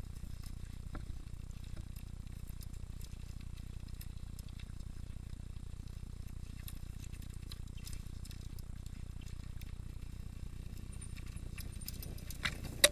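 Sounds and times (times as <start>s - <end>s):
bike clicks and rattles: 0.0s - 12.9s
bike riding rumble on dirt: 0.0s - 12.9s.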